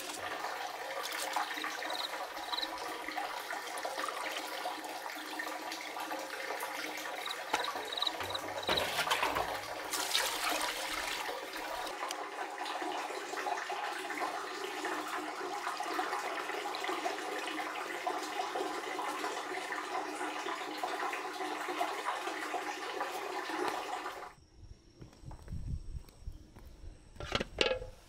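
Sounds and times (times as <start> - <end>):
water sloshing and pouring: 0.0 - 24.4.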